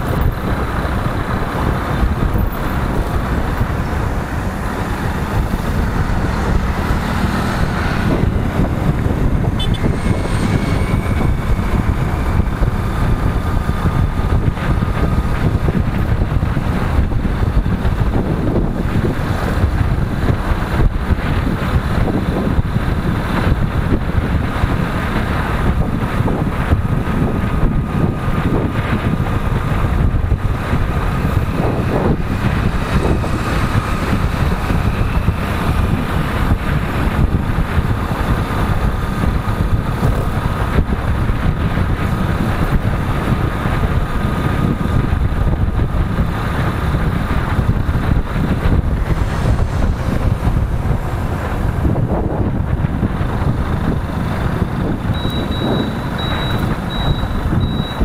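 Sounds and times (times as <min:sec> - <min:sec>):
motorcycle engine: 0:00.0 - 0:58.0
road noise: 0:00.0 - 0:58.0
wind buffeting microphone: 0:00.0 - 0:58.0.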